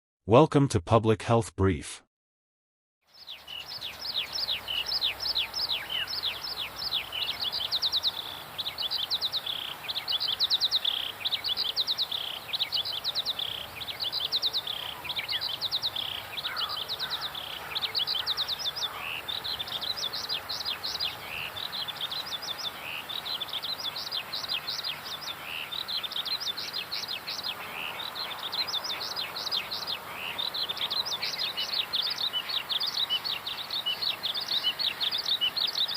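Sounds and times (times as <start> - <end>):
background hiss: 3.1 - 35.9
birds chirping and trilling: 3.1 - 35.9.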